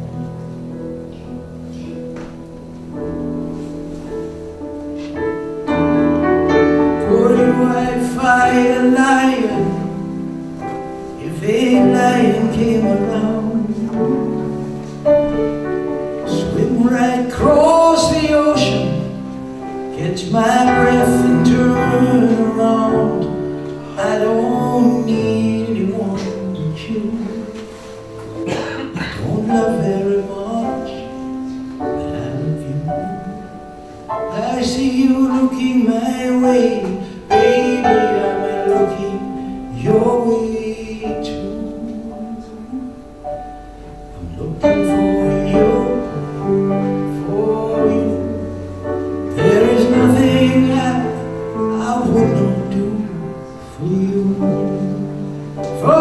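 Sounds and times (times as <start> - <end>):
grand piano playing: 0.0 - 56.0
man singing: 6.6 - 15.0, 16.1 - 43.3, 43.9 - 56.0.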